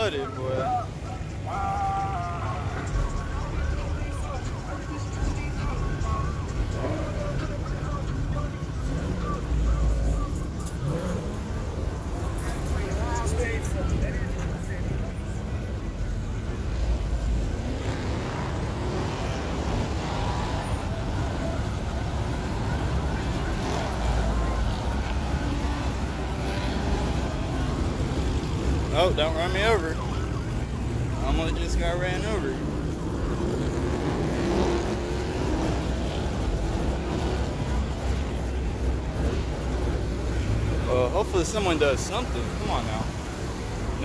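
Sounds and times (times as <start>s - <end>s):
car engines rumbling: 0.0s - 44.0s.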